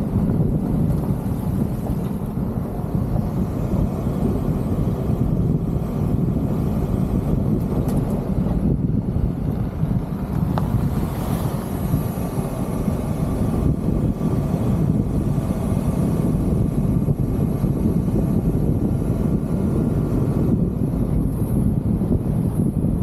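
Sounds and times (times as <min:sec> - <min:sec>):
car driving on gravel: 0:00.0 - 0:23.0
wind buffeting microphone: 0:00.0 - 0:23.0.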